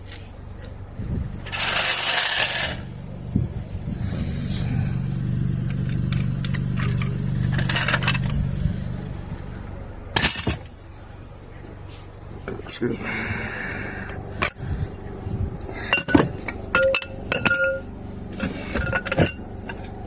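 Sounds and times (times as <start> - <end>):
motor humming: 0.8 - 20.0.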